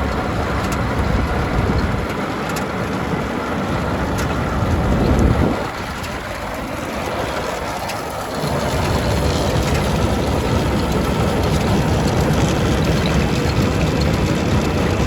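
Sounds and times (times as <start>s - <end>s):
tractor machinery rumble: 0.0s - 15.0s.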